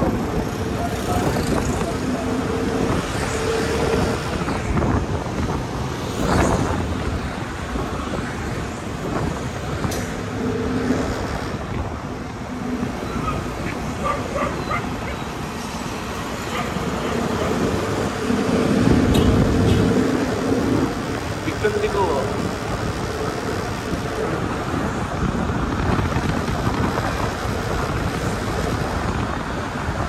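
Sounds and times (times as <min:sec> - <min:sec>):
road and traffic noise: 0:00.0 - 0:30.0
wind on microphone: 0:00.0 - 0:30.0.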